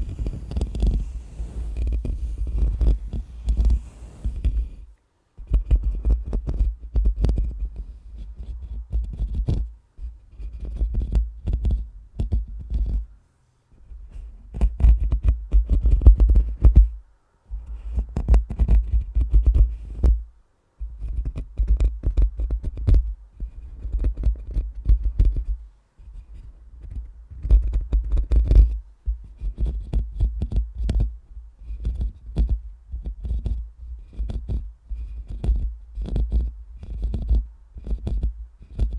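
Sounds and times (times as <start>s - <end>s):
microphone being scratched: 0.0s - 13.1s, 13.8s - 17.0s, 17.6s - 20.2s, 20.9s - 38.9s.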